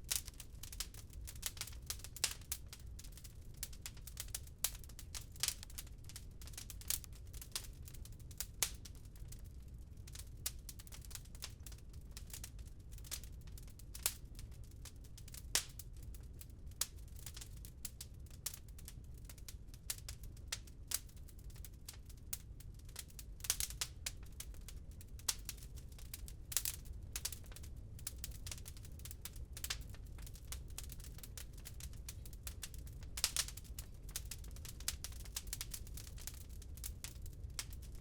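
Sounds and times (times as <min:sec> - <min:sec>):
low fire rumble: 0:00.0 - 0:38.0
wood fire crackling: 0:00.0 - 0:38.0.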